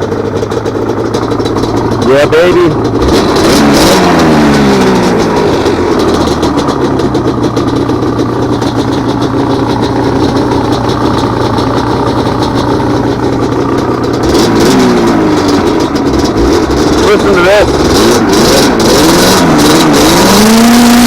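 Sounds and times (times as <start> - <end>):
two-stroke engine revving: 0.0 - 21.0.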